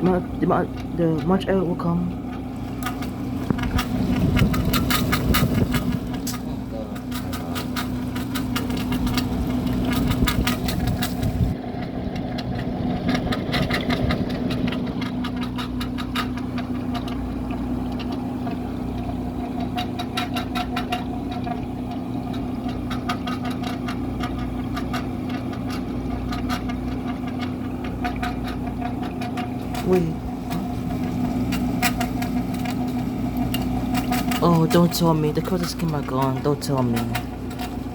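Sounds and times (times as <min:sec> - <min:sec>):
air conditioner humming: 0:00.0 - 0:37.9
water ticks from fan: 0:00.0 - 0:37.9.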